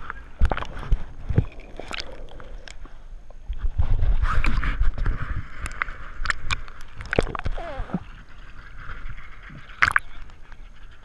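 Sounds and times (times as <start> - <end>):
water splashes: 0.0 - 8.1, 9.5 - 10.5
seawater sloshing and gurgling: 0.0 - 10.8.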